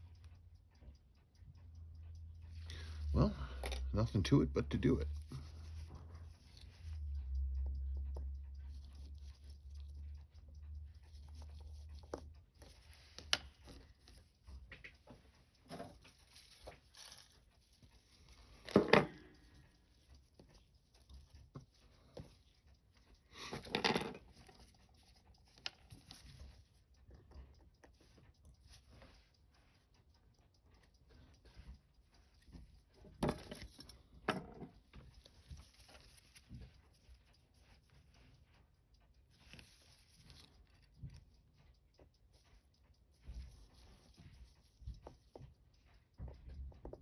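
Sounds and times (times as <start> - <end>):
small tool clicks and taps: 4.8 - 47.0.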